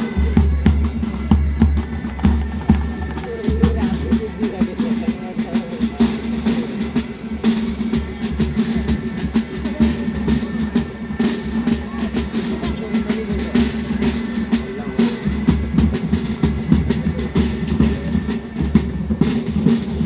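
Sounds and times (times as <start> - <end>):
bass drum beats: 0.0 - 20.0
military band playing: 0.0 - 20.0.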